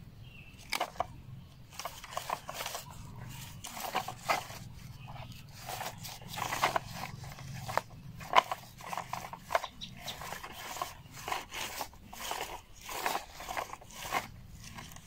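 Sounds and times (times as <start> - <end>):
toy excavator bucket scraping soil: 0.5 - 15.0.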